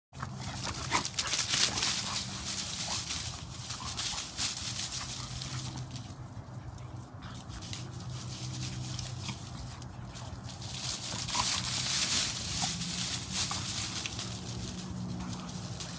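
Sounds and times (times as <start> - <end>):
dogs play-fighting: 0.2 - 15.9
scuffling through grass and leaves: 0.2 - 15.9.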